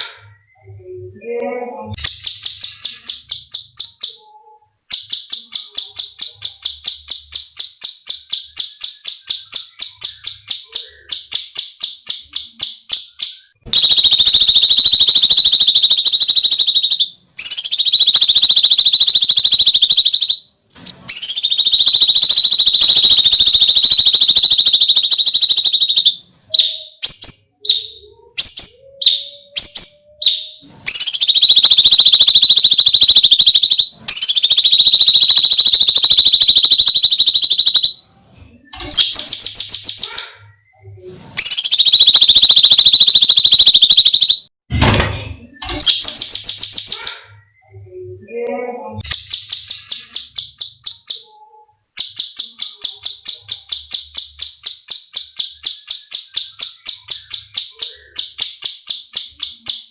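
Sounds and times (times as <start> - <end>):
songbird screeching song: 0.0 - 40.8, 41.4 - 44.5, 45.4 - 58.6.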